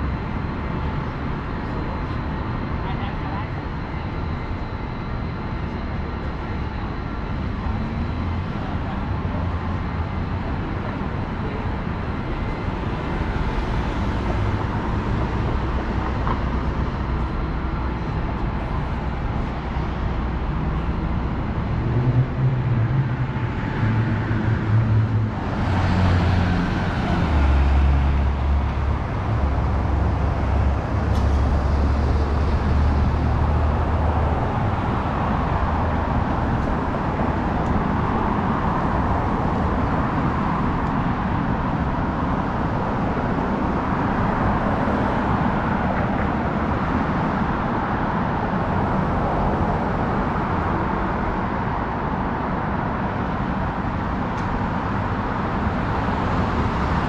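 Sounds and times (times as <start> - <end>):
hum of passing cars: 0.0 - 57.0.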